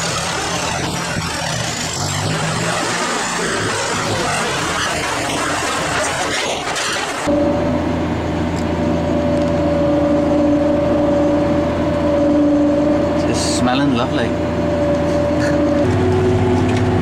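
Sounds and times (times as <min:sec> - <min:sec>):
constant whine: 0:00.0 - 0:17.0
dense rushing noise: 0:00.0 - 0:17.0
tractor engine hum: 0:00.0 - 0:17.0.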